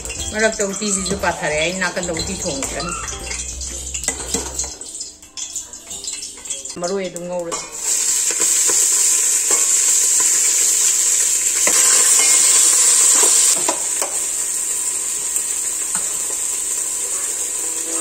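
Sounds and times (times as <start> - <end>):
greens sizzling in hot oil: 0.0 - 18.0.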